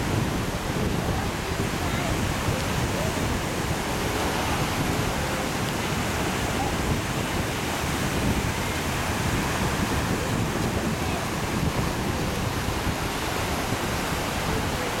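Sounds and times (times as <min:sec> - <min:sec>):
small sea waves on shore: 0:00.0 - 0:15.0
wind buffeting microphone: 0:00.0 - 0:15.0.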